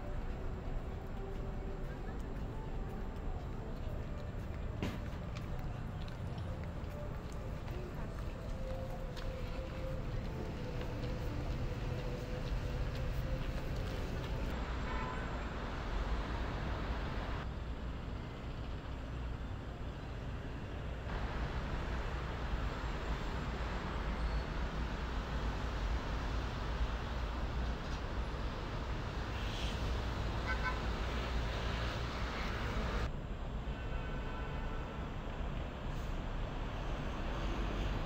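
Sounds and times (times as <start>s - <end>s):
road traffic hum: 0.0s - 38.0s.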